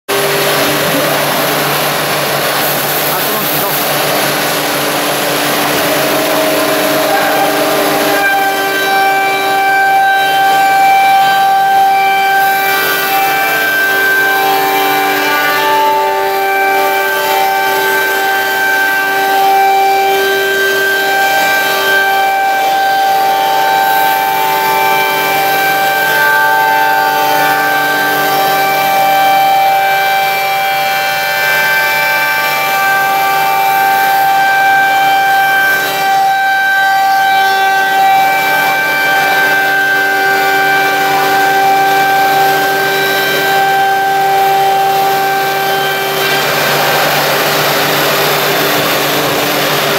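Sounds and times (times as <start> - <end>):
shaper cutters whining: 0.1 - 49.9.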